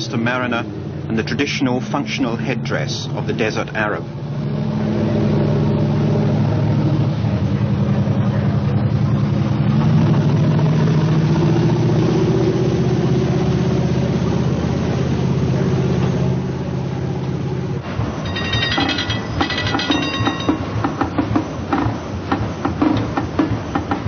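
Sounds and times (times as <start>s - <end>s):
ship's engine humming: 0.0s - 24.0s.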